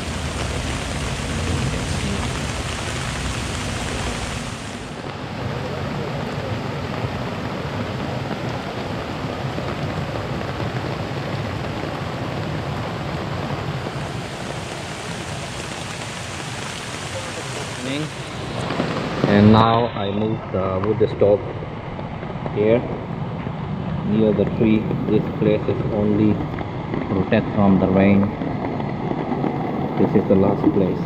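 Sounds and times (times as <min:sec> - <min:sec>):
heavy rain hissing: 0:00.0 - 0:31.0.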